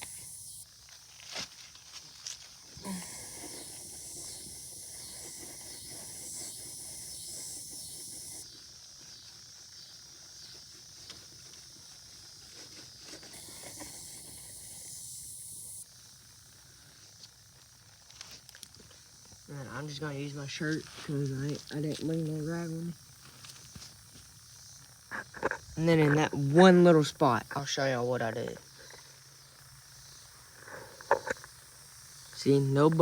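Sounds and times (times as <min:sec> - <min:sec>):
steady high-pitched hiss: 0:00.0 - 0:33.0.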